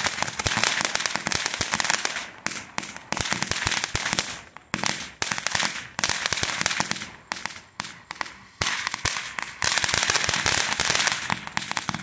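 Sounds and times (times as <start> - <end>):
firework crackling pops: 0.0 - 12.0
firework fountain hiss: 0.0 - 12.0.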